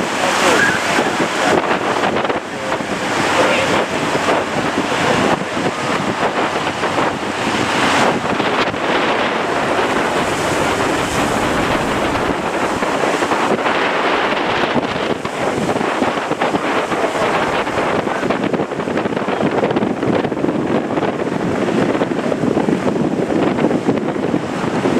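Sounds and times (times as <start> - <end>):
heavy surf rushing: 0.0 - 24.9
wind buffeting microphone: 0.0 - 24.9.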